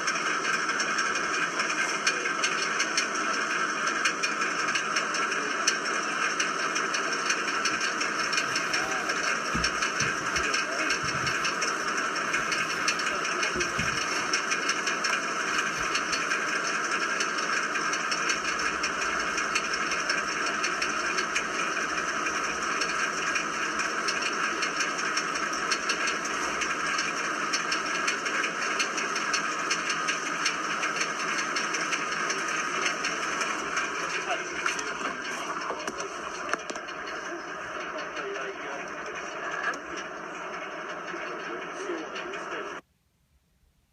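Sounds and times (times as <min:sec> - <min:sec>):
engine running with knocking rattle: 0:00.0 - 0:42.8.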